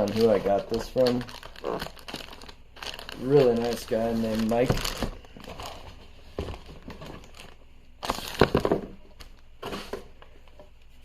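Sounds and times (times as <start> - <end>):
paper and packaging rustling: 0.0 - 10.2.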